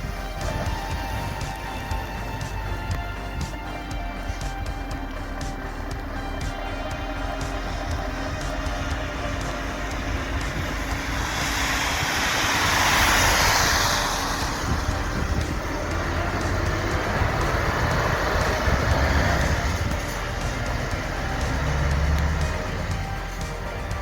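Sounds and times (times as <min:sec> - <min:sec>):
truck engine rumbling past: 0:00.0 - 0:24.0.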